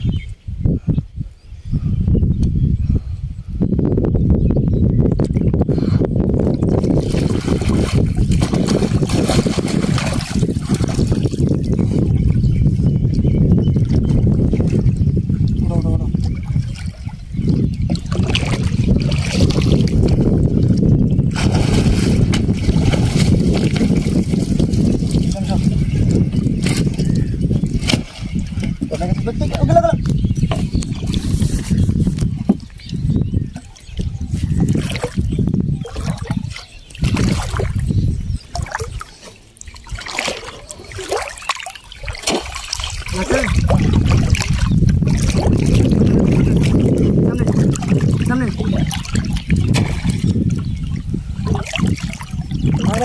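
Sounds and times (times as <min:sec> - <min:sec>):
wind buffeting microphone: 0:00.0 - 0:53.0
water sounds from boat: 0:06.3 - 0:53.0.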